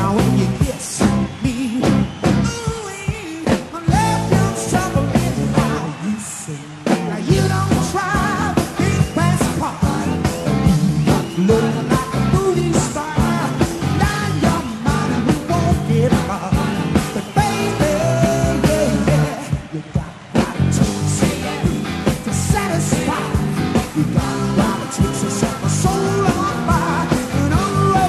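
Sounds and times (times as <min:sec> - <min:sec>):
bass guitar: 0:00.0 - 0:06.0, 0:06.7 - 0:28.0
drums: 0:00.0 - 0:28.0
electric guitar: 0:00.0 - 0:28.0.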